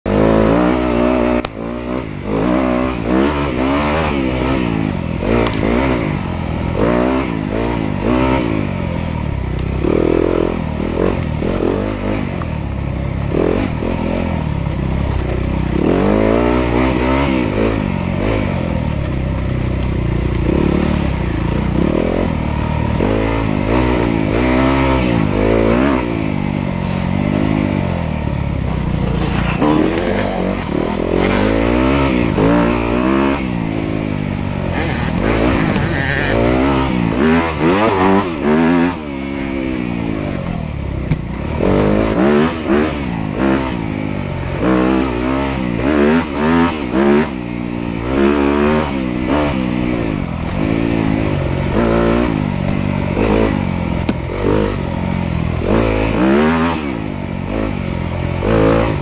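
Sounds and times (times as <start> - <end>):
dirt bike engine revving: 0.1 - 59.0.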